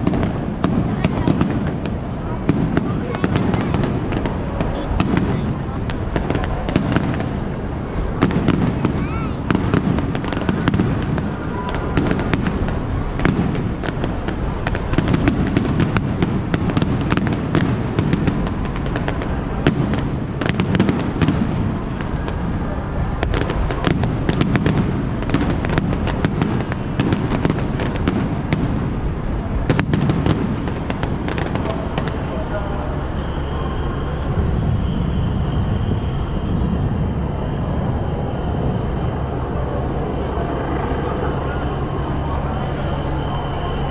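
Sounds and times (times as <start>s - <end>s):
fireworks bangs and crackles: 0.0s - 43.9s
steady low rumble: 0.0s - 43.9s.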